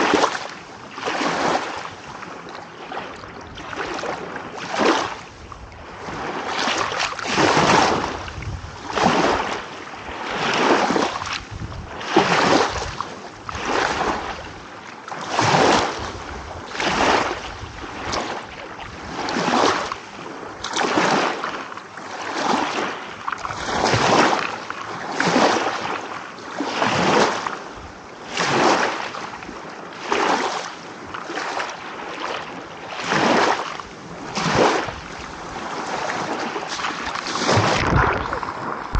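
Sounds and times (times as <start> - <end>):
small sea waves breaking: 0.0 - 38.9.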